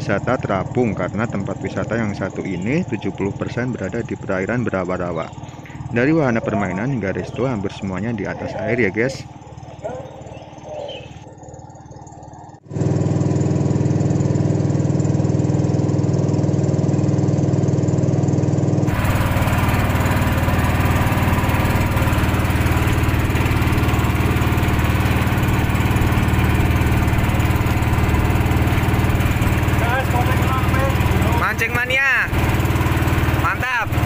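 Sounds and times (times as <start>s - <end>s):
motorboat engine running: 0.0s - 34.0s.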